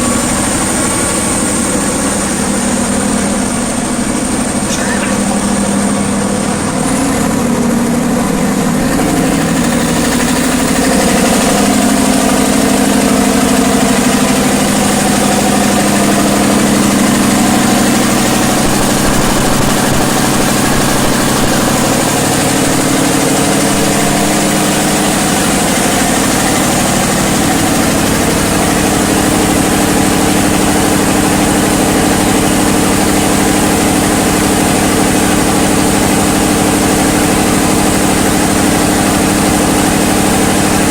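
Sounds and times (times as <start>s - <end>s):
diesel generator droning: 0.0s - 40.9s.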